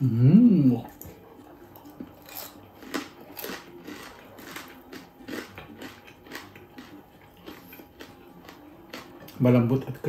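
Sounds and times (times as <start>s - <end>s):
crunchy chewing: 0.7s - 9.4s.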